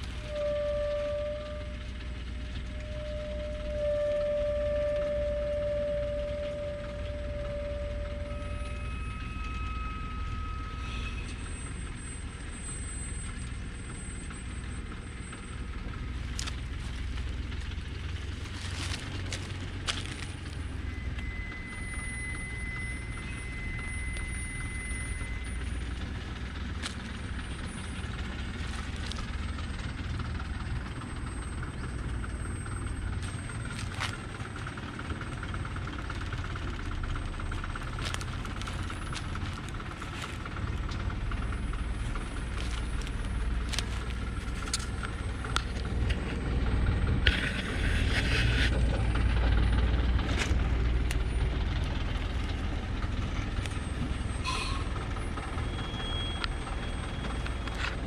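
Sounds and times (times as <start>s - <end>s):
truck diesel engine: 0.0s - 58.0s.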